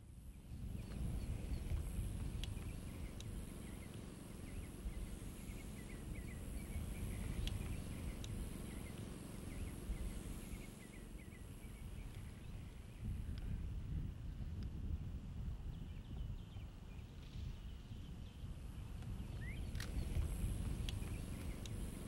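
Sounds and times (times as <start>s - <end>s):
bird chirping: 0.0s - 13.1s, 15.7s - 22.0s
wind rumble on microphone: 0.0s - 22.0s.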